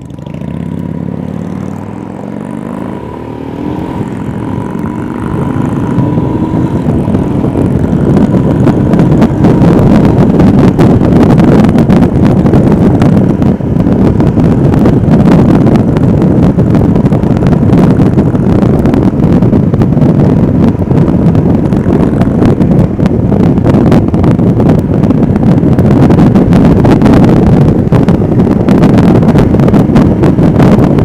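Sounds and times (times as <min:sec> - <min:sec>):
motorcycle engine running: 0:00.0 - 0:31.0
wind rushing across microphone: 0:00.0 - 0:31.0.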